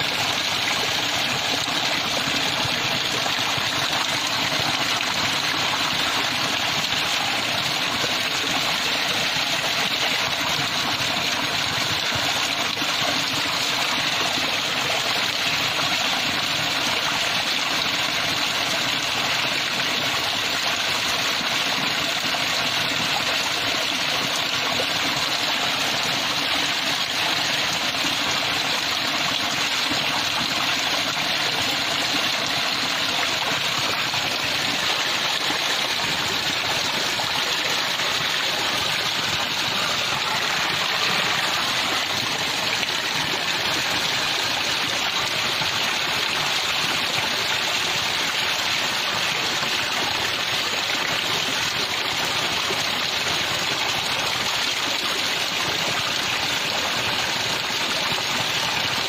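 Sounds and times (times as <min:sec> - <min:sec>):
waterfall splashing over rocks: 0:00.0 - 0:59.0.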